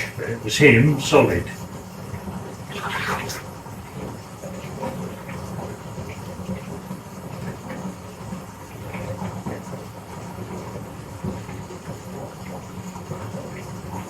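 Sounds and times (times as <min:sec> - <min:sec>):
water running from bath tap: 0:00.0 - 0:14.0.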